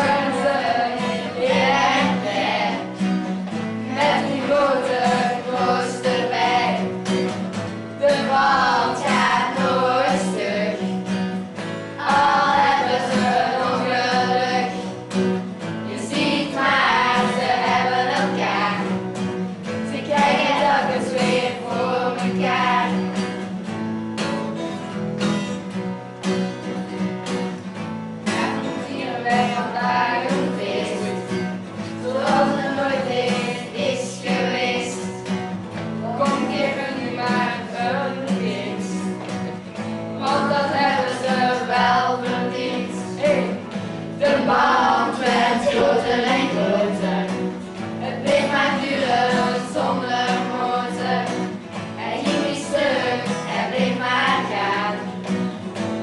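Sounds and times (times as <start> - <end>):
children and adults singing: 0.0 - 23.6, 28.3 - 39.4, 40.2 - 55.7
acoustic guitar: 0.0 - 56.0.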